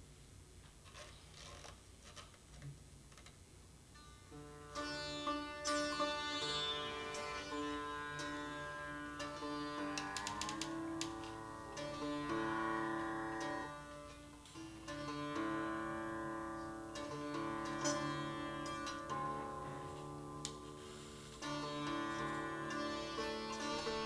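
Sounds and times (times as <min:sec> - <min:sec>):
sitar strings plucked: 0:04.0 - 0:24.0.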